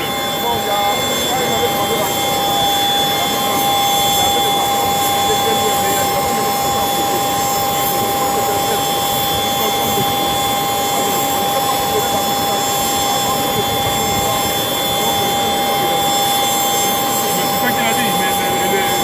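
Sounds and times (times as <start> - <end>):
aircraft turbine engine whine: 0.0 - 19.0.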